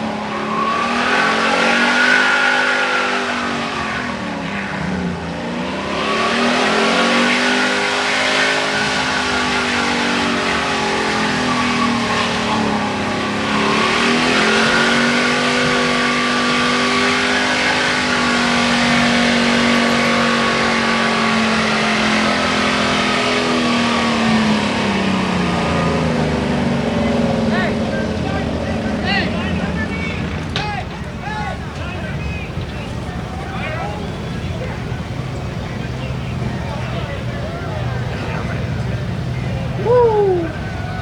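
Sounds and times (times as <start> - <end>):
diesel engine revving hard: 0.0 - 41.0.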